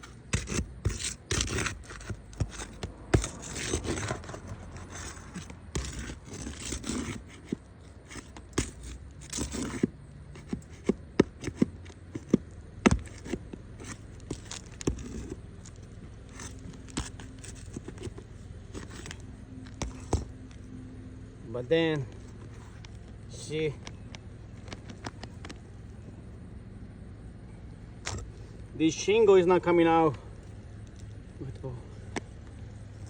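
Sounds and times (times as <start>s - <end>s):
tool scraping under shingle: 0.0s - 20.7s, 21.7s - 25.8s, 28.0s - 30.3s.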